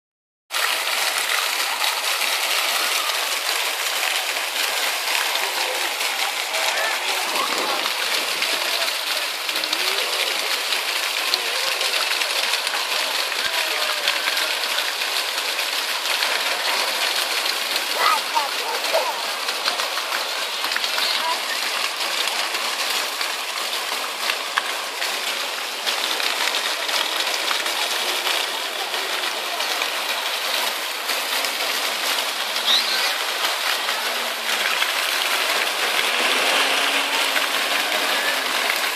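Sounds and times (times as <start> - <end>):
fountain water splashing on paving: 0.5 - 38.9.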